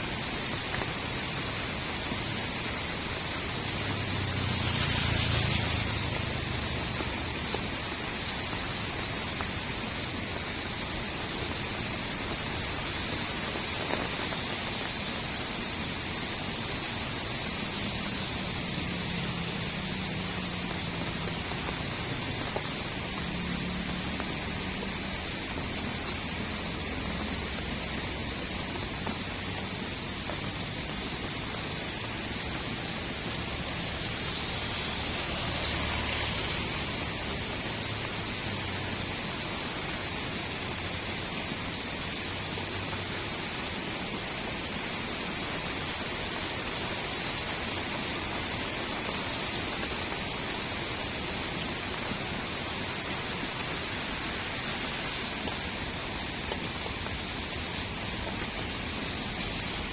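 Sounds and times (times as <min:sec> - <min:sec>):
rain falling on a street: 0:00.0 - 0:59.9
surge of water: 0:00.0 - 0:59.9.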